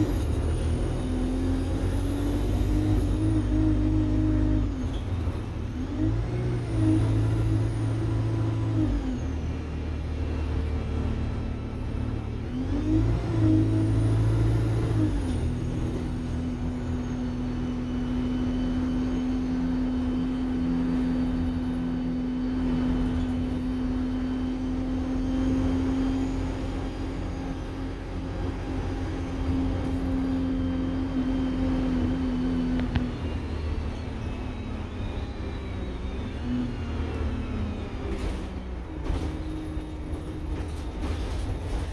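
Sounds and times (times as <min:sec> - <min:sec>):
bus diesel engine pulling away: 0:00.0 - 0:41.9
turbocharger whine: 0:00.0 - 0:41.9.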